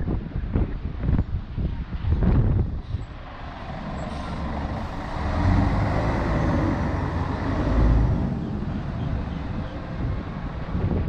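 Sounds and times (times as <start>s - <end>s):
wind buffeting microphone: 0.0s - 11.0s
bus engine rumbling past: 1.8s - 11.0s.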